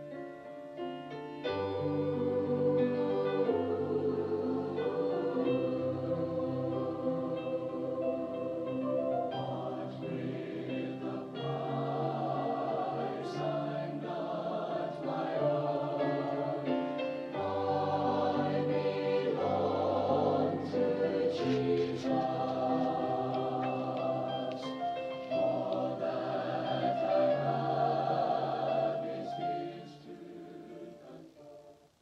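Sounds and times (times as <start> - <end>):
choir singing held chords: 0.0 - 32.0.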